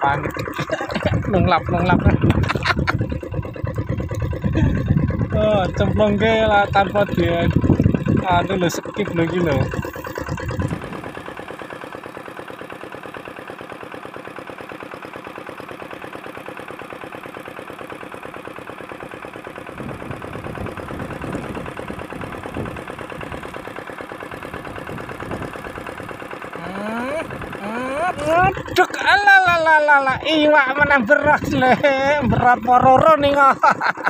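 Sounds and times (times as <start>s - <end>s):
engine running with fast pulse: 0.0s - 34.0s.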